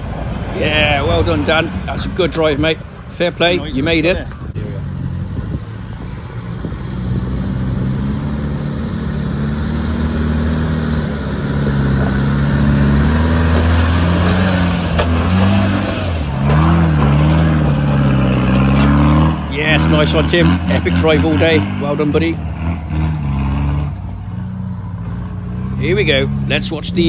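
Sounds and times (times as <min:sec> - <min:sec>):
truck engine revving on climb: 0:00.0 - 0:27.0.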